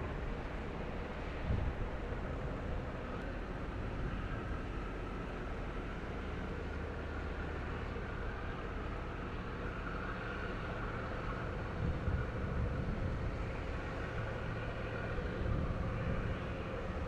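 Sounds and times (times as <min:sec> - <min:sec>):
outdoor noise: 0:00.0 - 0:17.0
ship engine drone: 0:00.0 - 0:17.0.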